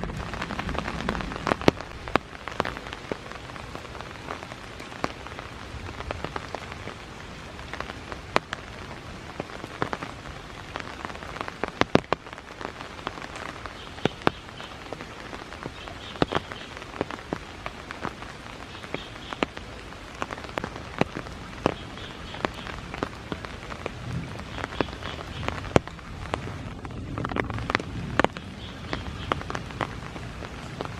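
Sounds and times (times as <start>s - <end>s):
rain falling: 0.0s - 30.9s
raindrops striking close: 0.0s - 30.9s.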